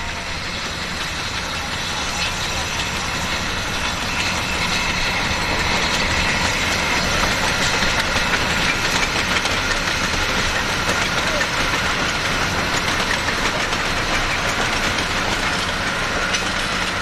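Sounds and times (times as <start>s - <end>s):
steam locomotive exhaust: 0.0s - 17.0s
train wheels on rails: 0.0s - 17.0s.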